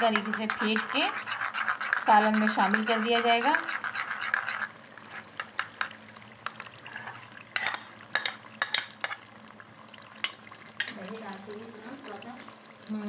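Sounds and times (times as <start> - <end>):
faint sizzle from pot: 0.0 - 13.0.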